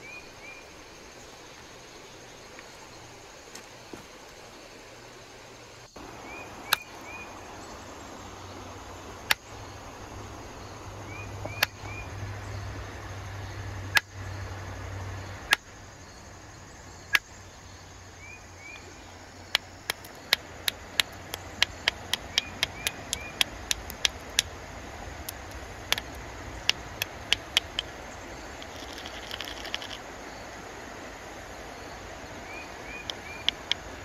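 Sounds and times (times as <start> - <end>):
faint bird chirps: 0.0 - 14.4, 15.0 - 24.4, 25.9 - 30.6, 31.8 - 34.0.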